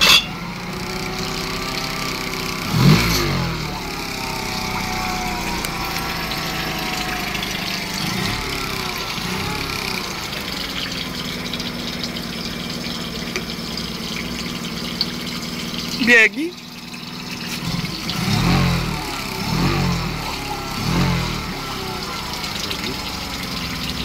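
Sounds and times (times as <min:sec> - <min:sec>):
outboard motor running: 0:00.0 - 0:24.0
water churning: 0:00.0 - 0:24.0.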